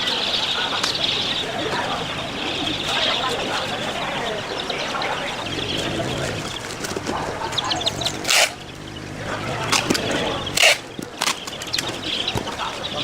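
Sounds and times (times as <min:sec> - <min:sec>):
chickens and chicks calling: 0:00.0 - 0:13.0.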